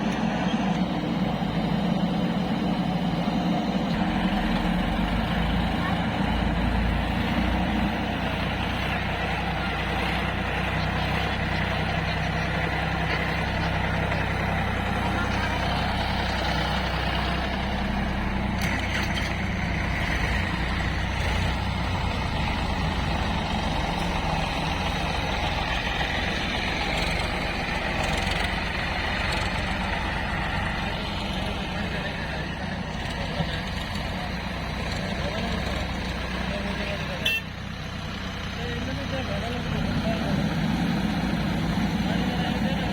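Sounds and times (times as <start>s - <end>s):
diesel engine running steadily: 0.0s - 42.9s.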